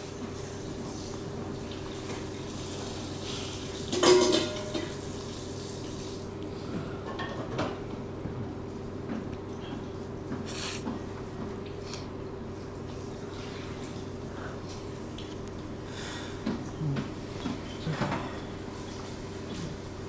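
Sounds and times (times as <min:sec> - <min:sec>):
room hum: 0:00.0 - 0:20.0.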